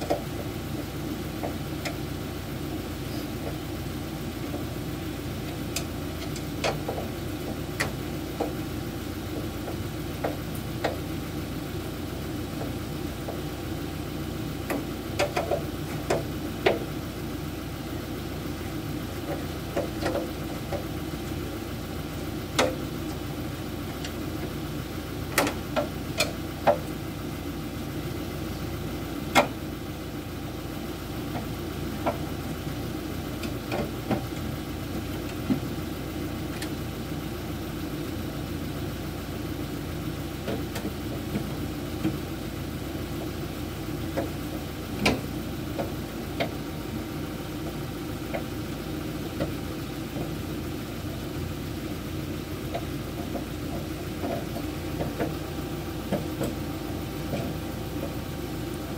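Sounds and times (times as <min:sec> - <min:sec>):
engine hum: 0:00.0 - 0:58.9.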